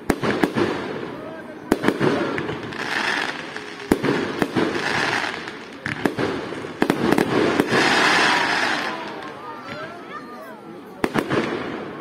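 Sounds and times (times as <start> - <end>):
hissing crackle of fireworks: 0.0 - 12.0.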